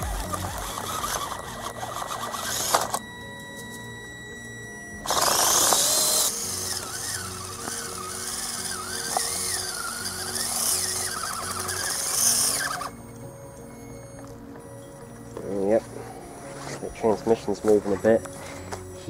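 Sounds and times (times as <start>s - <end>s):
background music: 0.0s - 19.0s
drivetrain noise burst: 0.0s - 19.0s
small electric motor whining: 0.0s - 19.0s.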